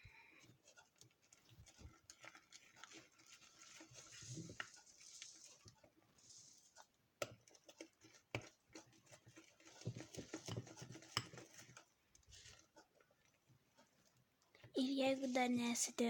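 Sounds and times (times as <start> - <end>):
slime mixed by hand: 0.0 - 16.0.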